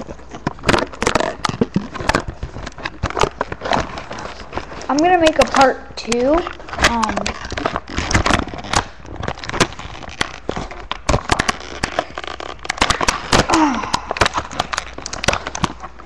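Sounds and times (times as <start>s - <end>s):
plastic packaging crackling: 0.0s - 16.0s.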